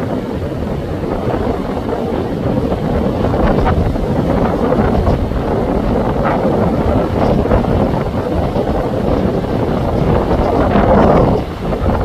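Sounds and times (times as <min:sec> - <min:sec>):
low rumble of boat engine: 0:00.0 - 0:12.0
wind buffeting microphone: 0:00.0 - 0:12.0.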